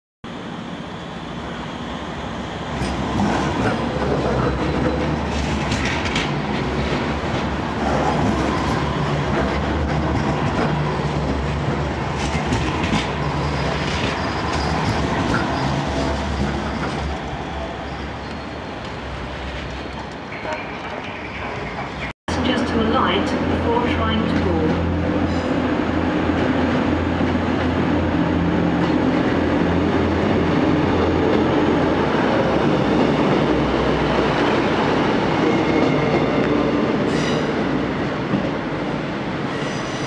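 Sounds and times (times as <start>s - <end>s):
tram running hum: 0.3s - 40.0s.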